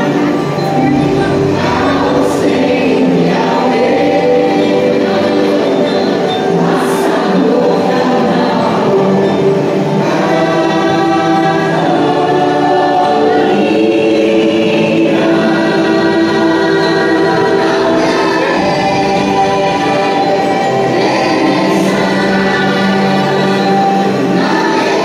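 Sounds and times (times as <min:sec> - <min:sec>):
choir singing long held notes: 0:00.0 - 0:25.0
music soundtrack: 0:00.0 - 0:25.0.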